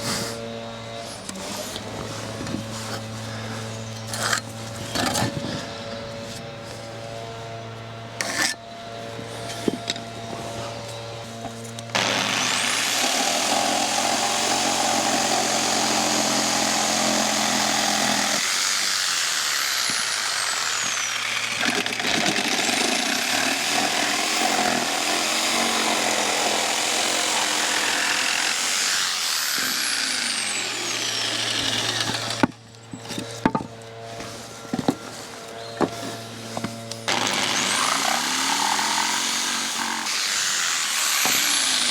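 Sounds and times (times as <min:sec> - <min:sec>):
electric power saw cutting timber: 0:00.0 - 0:41.9.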